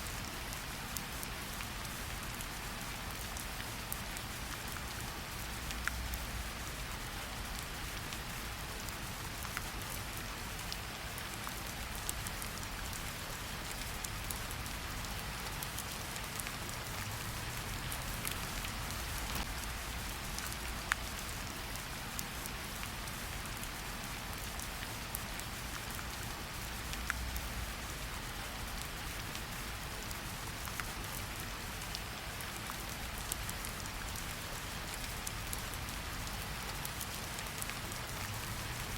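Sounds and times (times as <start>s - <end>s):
raindrops ticking on leaves: 0.0s - 38.9s
steady rain falling: 0.0s - 38.9s.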